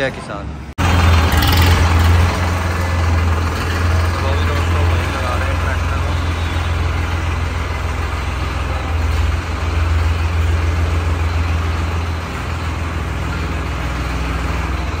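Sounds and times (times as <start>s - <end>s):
tractor diesel engine running: 0.8s - 15.0s.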